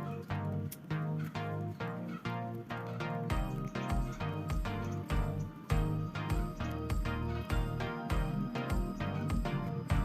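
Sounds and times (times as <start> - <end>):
plucked guitar notes: 0.0 - 10.0.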